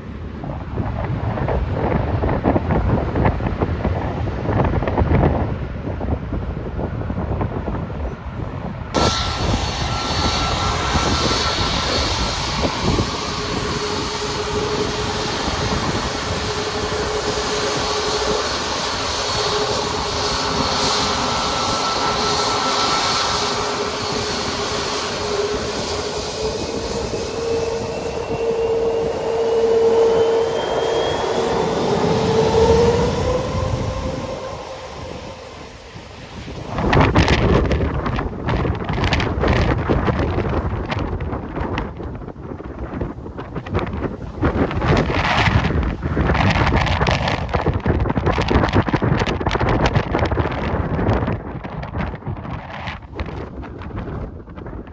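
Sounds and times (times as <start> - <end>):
jet engines roaring: 0.0 - 53.5
rising jet engine whine: 0.0 - 54.9.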